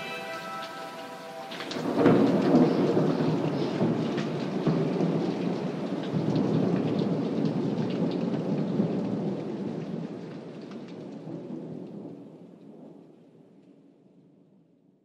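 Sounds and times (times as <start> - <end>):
thunder rumbling: 0.0 - 12.6
rain falling: 0.0 - 13.8.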